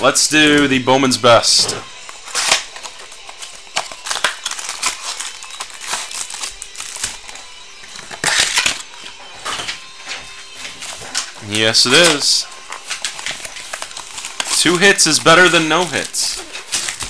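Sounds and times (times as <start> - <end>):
cardboard and wrappers crinkling: 1.3 - 17.0.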